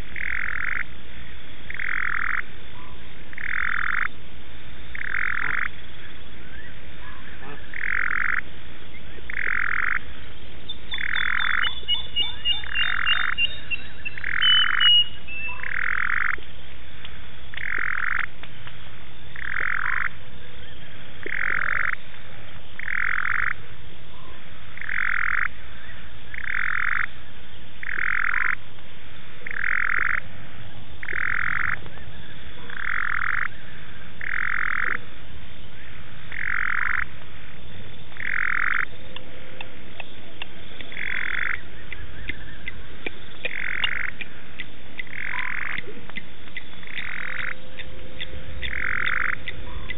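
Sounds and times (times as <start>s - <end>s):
frog calling: 0.0s - 4.2s, 4.8s - 16.5s, 17.5s - 18.4s, 19.3s - 22.2s, 22.8s - 28.7s, 29.3s - 30.4s, 31.0s - 49.9s.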